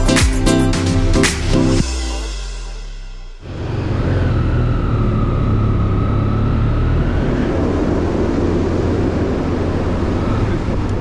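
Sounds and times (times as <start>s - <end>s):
motorcycle engine drone: 0.8s - 11.0s.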